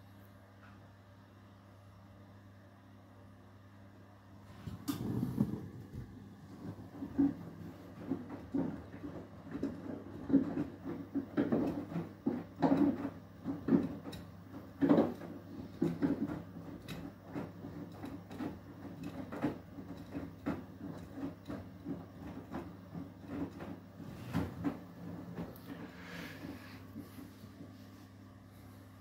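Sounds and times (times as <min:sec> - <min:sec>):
washing machine motor hum: 0:00.0 - 0:29.0
water swishing in drum: 0:04.5 - 0:29.0.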